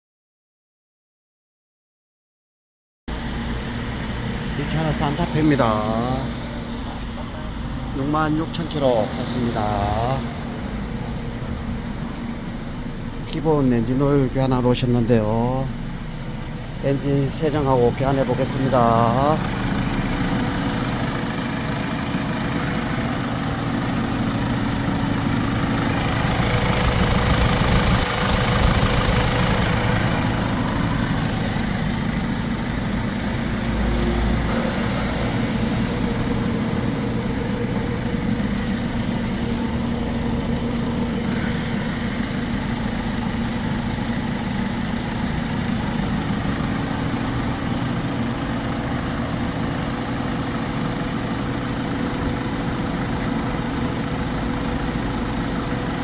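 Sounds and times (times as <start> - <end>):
car engine idling: 3.1 - 56.0.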